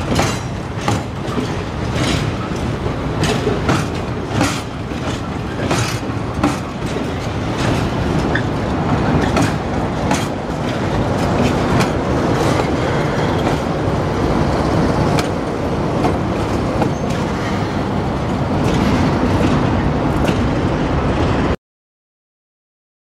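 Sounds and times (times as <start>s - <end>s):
wheels clicking over rail joints: 0.0s - 20.5s
train wheels rumbling on rails: 0.0s - 21.6s.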